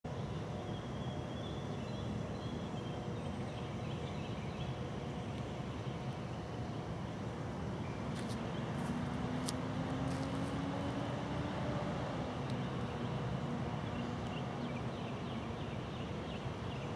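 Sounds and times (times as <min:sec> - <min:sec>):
distant engine hum: 0:00.1 - 0:16.9.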